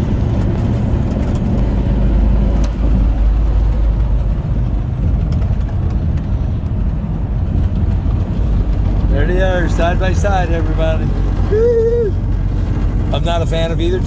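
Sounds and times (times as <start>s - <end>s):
heavy truck rumbling: 0.0s - 14.0s.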